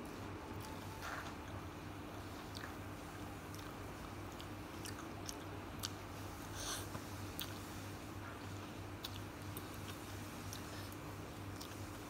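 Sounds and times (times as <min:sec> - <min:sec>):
steady low hum: 0:00.0 - 0:12.0
person chewing noodles: 0:02.2 - 0:12.0.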